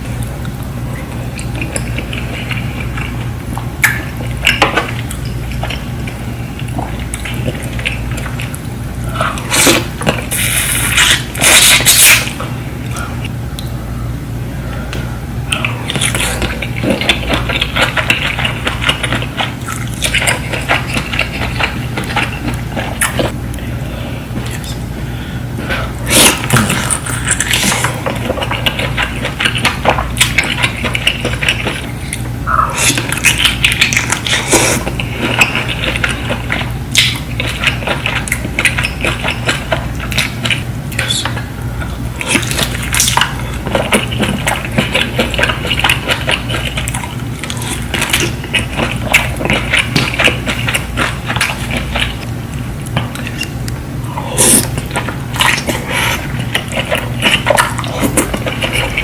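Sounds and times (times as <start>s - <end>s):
steady low hum: 0.0s - 59.0s
wet chewing: 0.1s - 13.7s, 15.5s - 23.7s, 25.6s - 59.0s.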